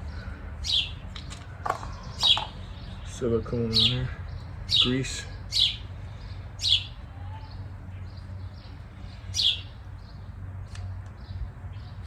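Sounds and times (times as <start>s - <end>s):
bird chirping: 0.0s - 10.5s.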